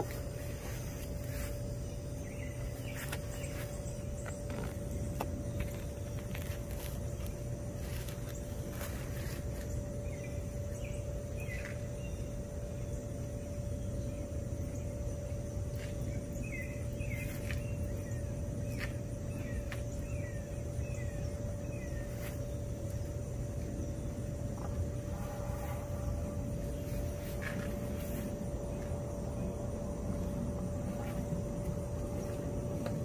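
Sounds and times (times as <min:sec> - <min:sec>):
bird chirping: 0:00.0 - 0:33.0
constant mid-pitched hum: 0:00.0 - 0:33.0
low background rumble: 0:00.0 - 0:33.0.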